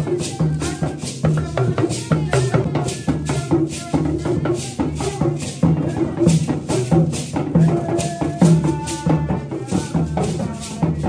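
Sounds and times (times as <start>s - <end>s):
hand drums beating: 0.0s - 11.0s.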